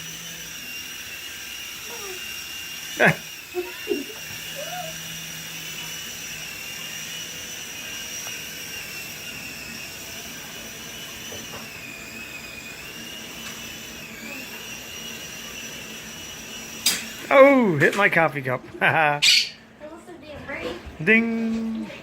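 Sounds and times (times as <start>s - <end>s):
toy helicopter rotors whining: 0.0s - 19.7s.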